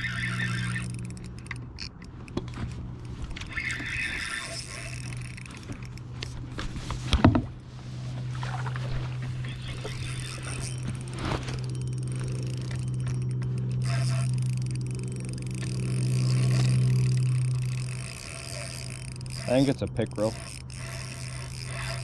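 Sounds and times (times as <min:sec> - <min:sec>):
steady low hum: 0:00.0 - 0:22.0
kayak paddle strokes: 0:02.3 - 0:22.0.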